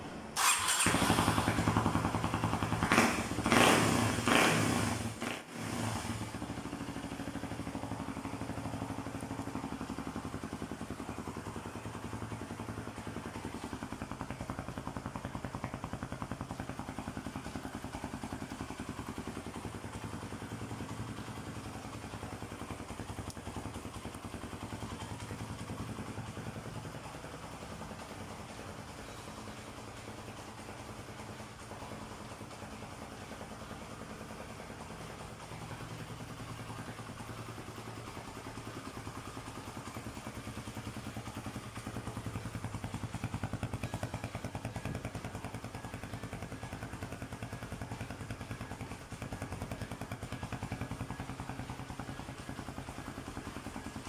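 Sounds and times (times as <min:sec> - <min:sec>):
motorcycle engine revving and idling: 0:00.0 - 0:54.0.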